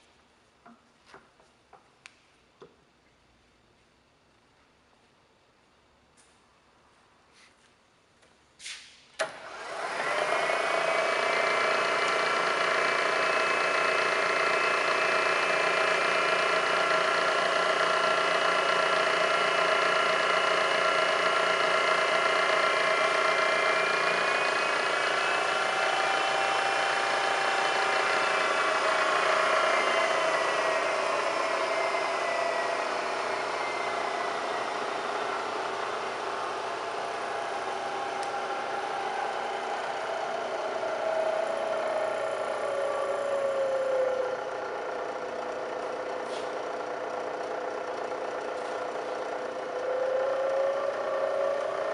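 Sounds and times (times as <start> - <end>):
milling machine motor whine: 9.2 - 51.9.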